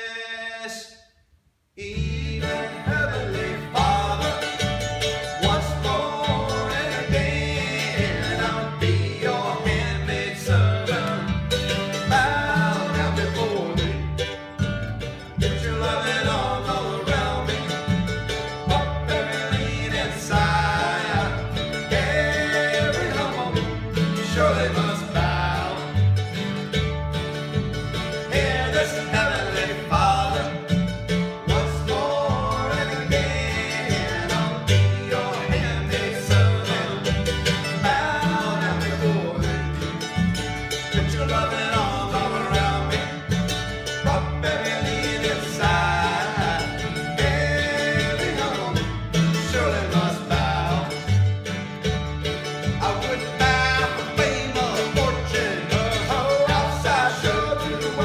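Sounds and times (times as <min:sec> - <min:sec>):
men singing: 0:01.8 - 0:26.4, 0:28.0 - 0:51.3, 0:52.6 - 0:58.0
acoustic guitar: 0:01.8 - 0:58.0
mandolin: 0:01.8 - 0:58.0
plucked upright bass: 0:01.8 - 0:58.0.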